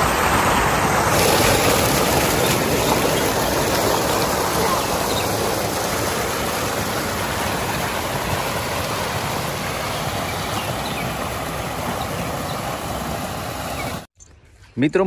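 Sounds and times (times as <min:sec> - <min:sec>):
water gushing into tank: 0:01.0 - 0:14.1.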